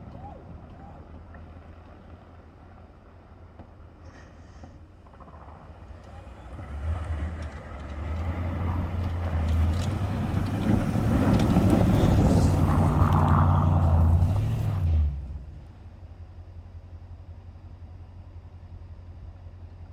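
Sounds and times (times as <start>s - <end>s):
pickup engine under load: 0.0s - 16.6s.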